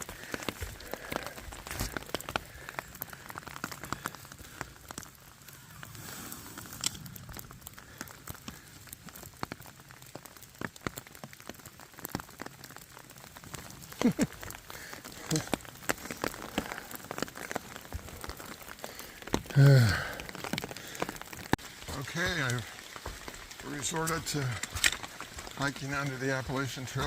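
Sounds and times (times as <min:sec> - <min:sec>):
raindrops ticking close by: 0:00.0 - 0:27.0
steady rain falling: 0:00.0 - 0:27.0.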